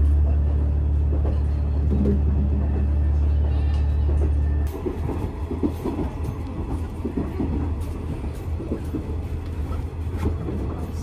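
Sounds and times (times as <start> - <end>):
railcar rumbling: 0.0 - 11.0.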